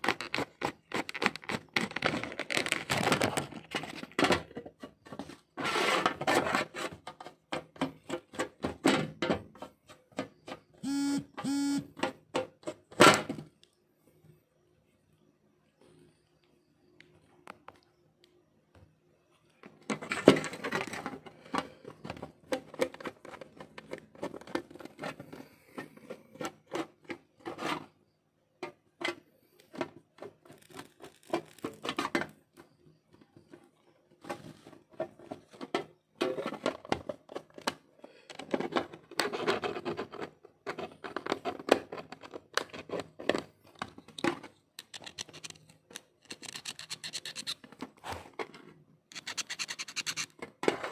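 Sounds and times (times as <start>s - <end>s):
clicks and scraping on plastic case: 0.0s - 10.8s, 19.6s - 28.0s, 28.6s - 50.9s.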